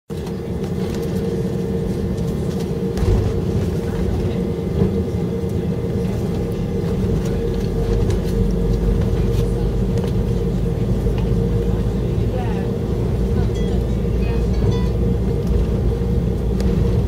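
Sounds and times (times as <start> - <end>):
airliner cabin hum: 0.1 - 17.0.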